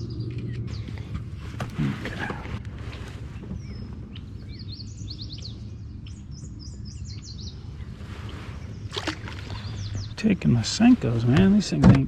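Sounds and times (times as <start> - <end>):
low background rumble: 0.0 - 12.0
songbird chirping: 0.0 - 12.0.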